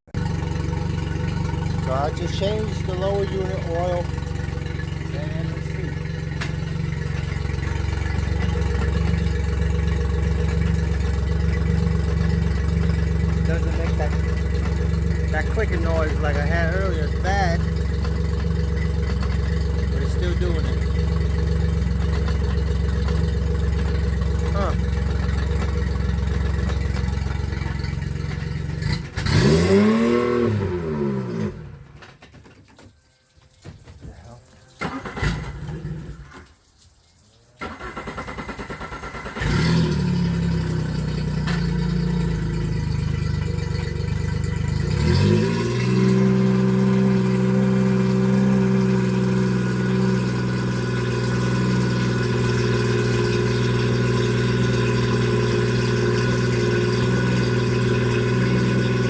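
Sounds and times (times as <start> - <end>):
outboard motor running: 0.1 - 31.9, 37.7 - 59.0.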